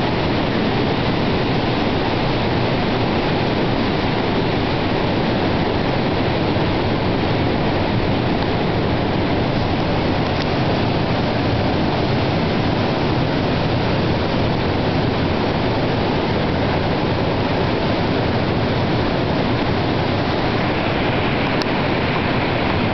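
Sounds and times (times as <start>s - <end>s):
sea surf roaring on rocks: 0.0s - 22.9s.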